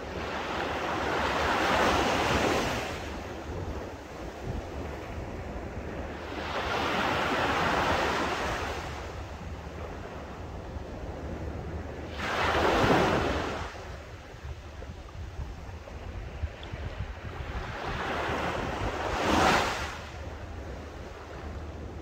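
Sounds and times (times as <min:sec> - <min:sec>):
waves breaking on a beach: 0:00.0 - 0:22.0
wind rumble on microphone: 0:00.0 - 0:22.0.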